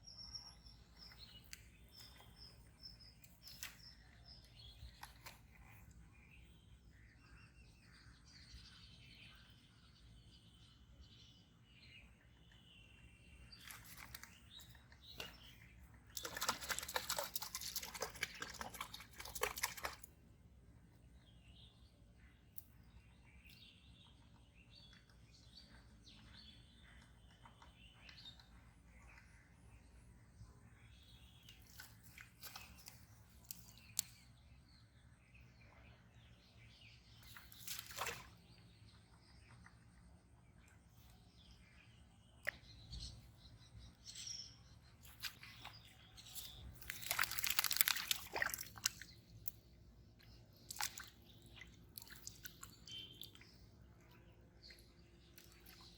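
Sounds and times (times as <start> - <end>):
birds chirping: 0.0 - 20.1, 21.0 - 55.9.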